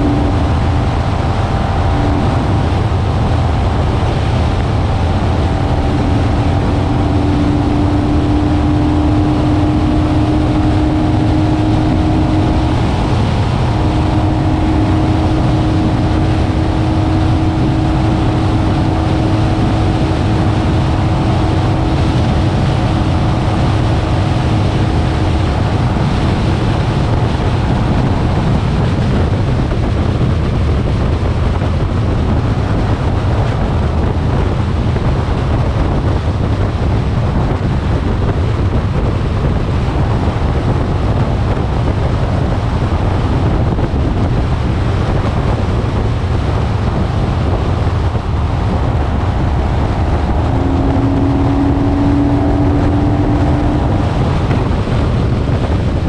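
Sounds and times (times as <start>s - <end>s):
motorcycle engine drone: 0.0s - 56.0s
wind rush on microphone: 0.0s - 56.0s.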